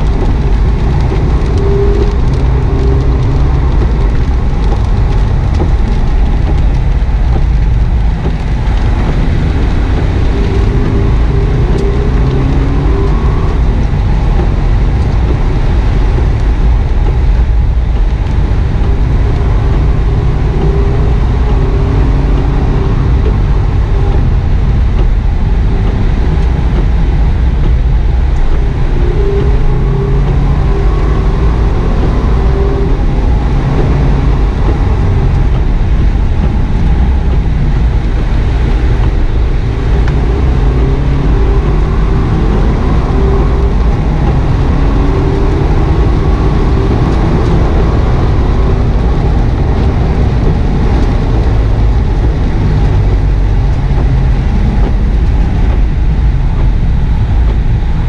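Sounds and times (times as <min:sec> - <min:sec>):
car engine revving: 0:00.0 - 0:58.0
tyres on wet road: 0:00.0 - 0:58.0.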